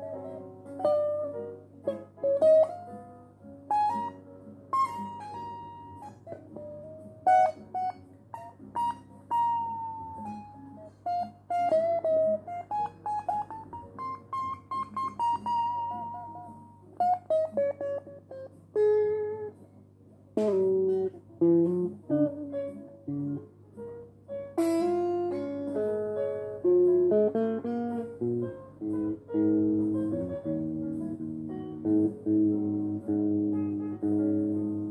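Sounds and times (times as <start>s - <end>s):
electric guitar playing: 0.0s - 34.9s.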